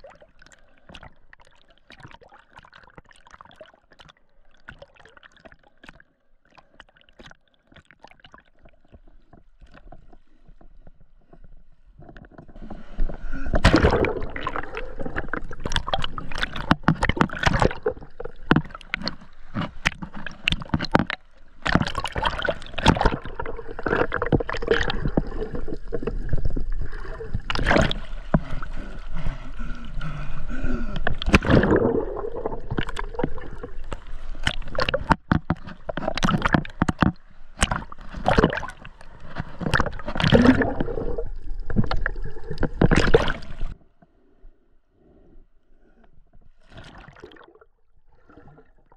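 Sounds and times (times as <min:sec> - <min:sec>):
water splashes and bubbling: 0:00.0 - 0:44.0, 0:45.9 - 0:48.9
sea water sloshing and gurgling: 0:00.0 - 0:48.9.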